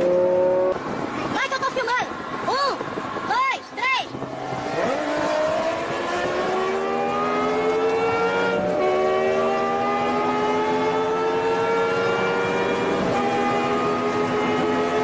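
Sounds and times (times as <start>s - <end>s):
car engine accelerating hard: 0.0s - 1.2s, 4.1s - 15.0s.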